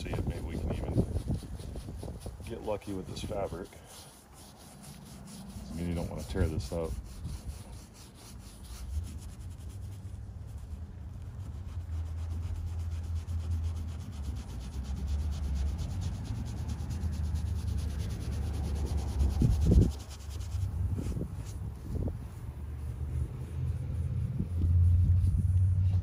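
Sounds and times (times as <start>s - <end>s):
brush scrubbing fabric: 0.0s - 26.0s.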